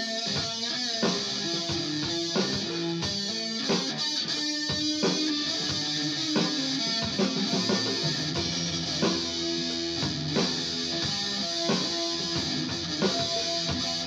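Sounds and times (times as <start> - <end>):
guitar music with drum beat: 0.0 - 14.0.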